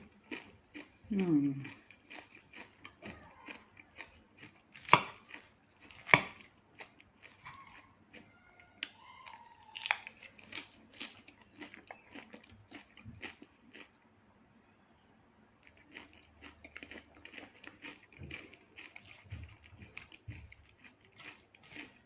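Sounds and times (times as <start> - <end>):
chewing salad greens: 0.0 - 14.0, 15.6 - 22.0.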